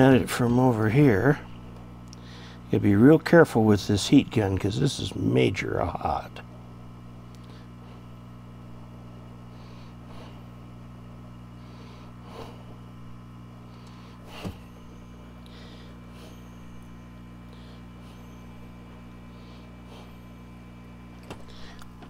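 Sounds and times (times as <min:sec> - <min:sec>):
heat gun fan humming: 0:00.0 - 0:22.0.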